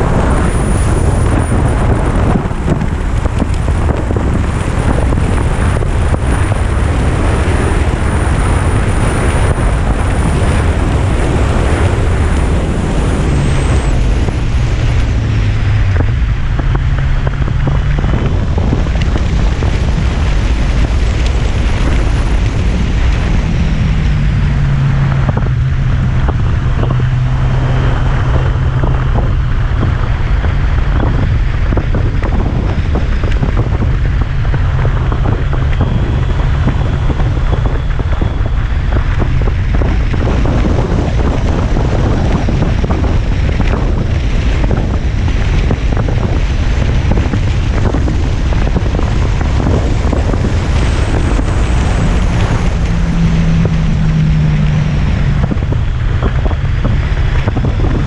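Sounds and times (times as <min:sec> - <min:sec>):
motorcycle engine hum: 0:00.0 - 0:58.0
wind rushing over microphone: 0:00.0 - 0:58.0.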